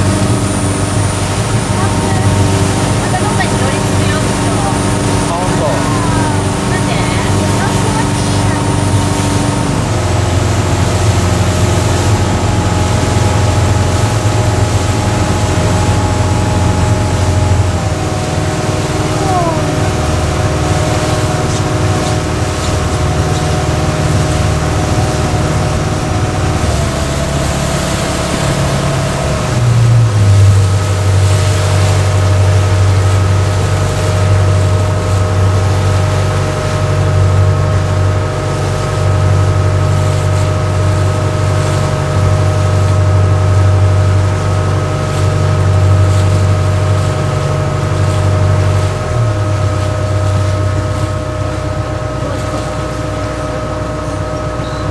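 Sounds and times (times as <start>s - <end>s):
ferry engine drone: 0.0s - 54.9s
wind and water rushing: 0.0s - 54.9s.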